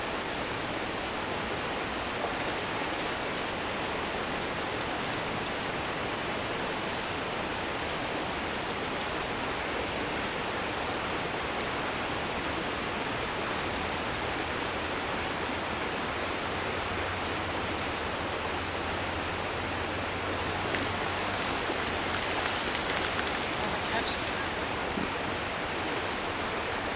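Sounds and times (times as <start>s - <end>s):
creek water running: 0.0s - 26.9s.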